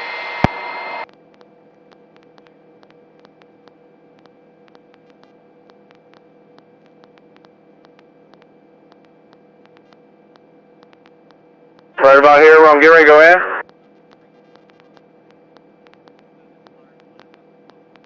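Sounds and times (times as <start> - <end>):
faint electrical hum: 0.0 - 18.0
light static: 0.0 - 18.0
faint clicks: 1.1 - 11.9, 13.6 - 18.0.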